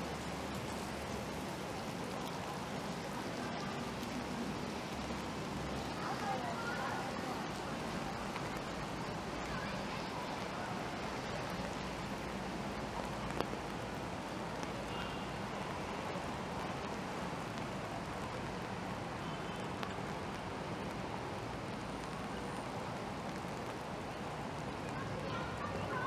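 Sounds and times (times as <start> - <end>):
rain hissing: 0.0 - 26.0
traffic on wet roads: 0.0 - 26.0.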